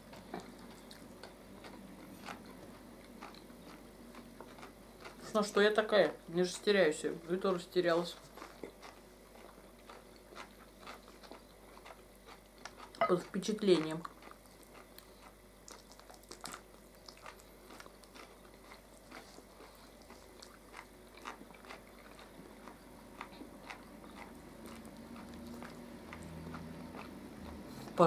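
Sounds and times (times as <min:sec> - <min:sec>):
chewing and biting food: 0:00.0 - 0:05.4, 0:08.1 - 0:28.0.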